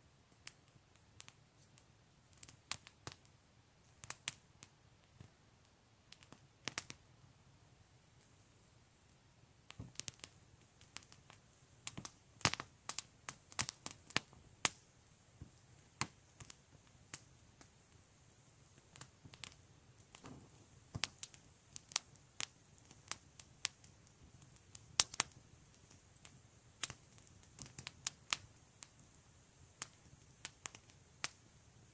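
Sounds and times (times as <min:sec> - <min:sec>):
campfire crackling and popping: 0:00.3 - 0:05.4, 0:06.1 - 0:07.0, 0:09.1 - 0:31.9.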